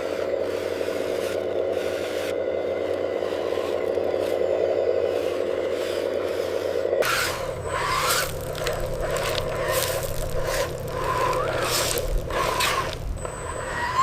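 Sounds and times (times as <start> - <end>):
soil and gravel scraping: 0.0 - 14.0
toy machine motor running: 0.0 - 14.0.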